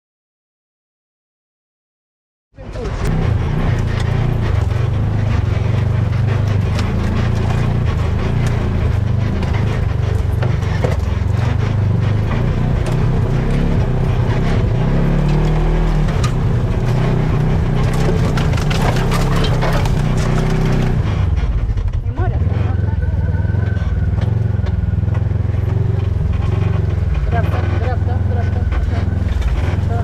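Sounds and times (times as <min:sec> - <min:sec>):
off-road vehicle engine: 0:02.6 - 0:30.0
knocks and rattles: 0:02.8 - 0:30.0.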